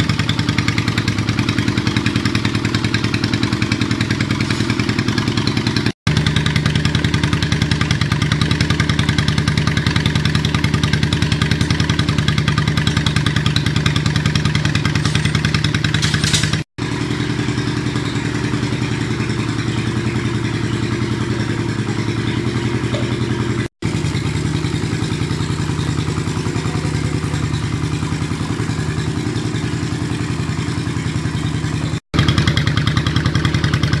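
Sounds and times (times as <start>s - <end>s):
motorcycle engine idling: 0.0s - 34.0s.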